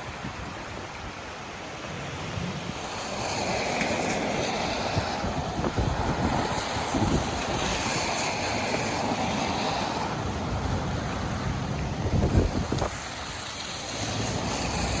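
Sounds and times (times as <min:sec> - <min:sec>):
floodwater rushing: 0:00.0 - 0:15.0
wind buffeting microphone: 0:00.0 - 0:15.0.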